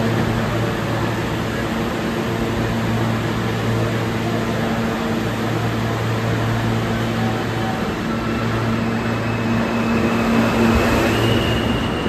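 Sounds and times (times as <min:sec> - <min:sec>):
constant rush of noise: 0:00.0 - 0:12.0
subway car low hum: 0:00.0 - 0:12.0.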